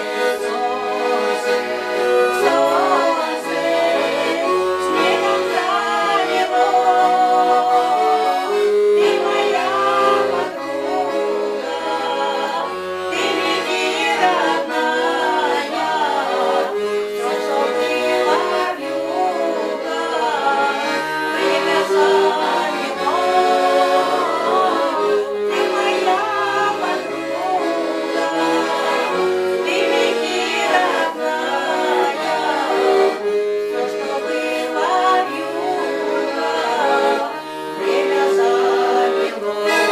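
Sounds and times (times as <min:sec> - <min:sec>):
accordion music: 0:00.0 - 0:39.9.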